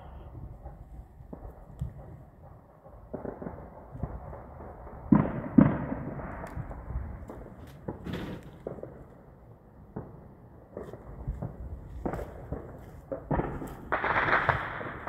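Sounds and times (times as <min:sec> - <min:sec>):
sharp echoing bangs: 0:00.0 - 0:15.0.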